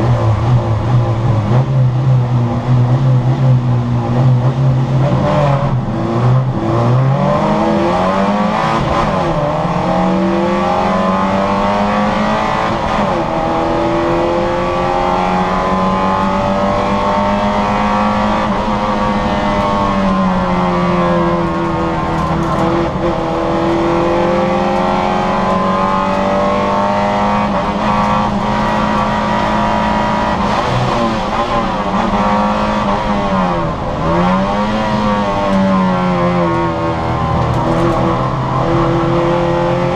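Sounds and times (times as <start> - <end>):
car engine revving and shifting: 0.0 - 39.9.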